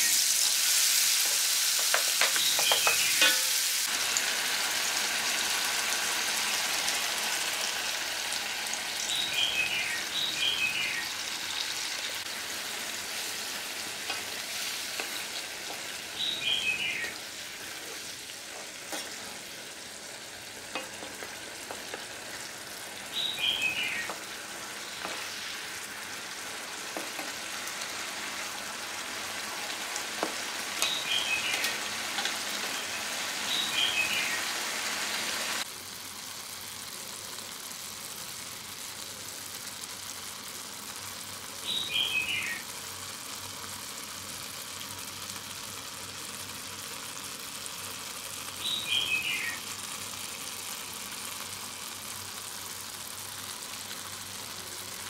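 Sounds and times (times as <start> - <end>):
sauce sizzling and bubbling in pan: 0.0 - 55.0.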